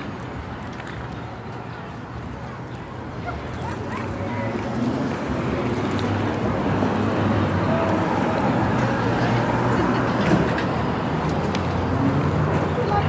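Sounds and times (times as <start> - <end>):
traffic rumble: 0.0 - 13.0
faint murmuring voices: 0.6 - 13.0.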